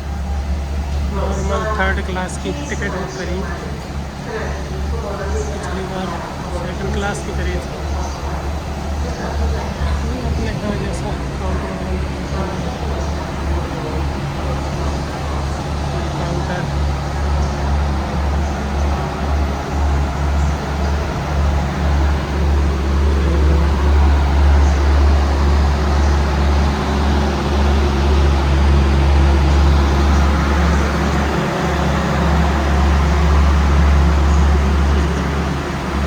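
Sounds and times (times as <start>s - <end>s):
broad rushing noise: 0.0s - 36.0s
train engine hum: 0.0s - 36.0s.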